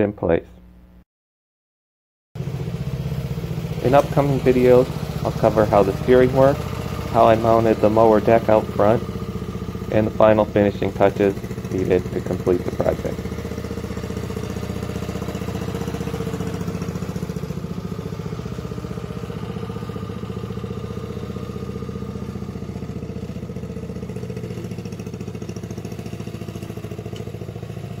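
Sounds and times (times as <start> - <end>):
mower engine running: 2.4 - 28.0.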